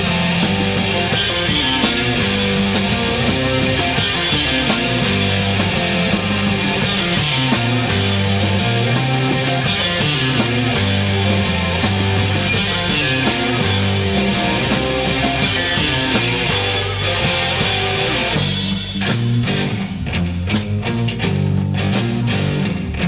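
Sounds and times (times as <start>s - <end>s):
drum hits: 0.0s - 20.2s
rock band playing: 0.0s - 23.0s.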